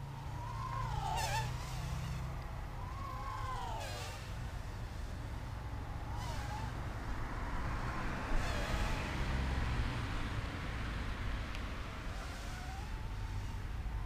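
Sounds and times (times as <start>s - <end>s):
quadcopter motors whining: 0.0s - 9.6s, 11.6s - 14.0s
wind rumble on microphone: 0.0s - 14.0s.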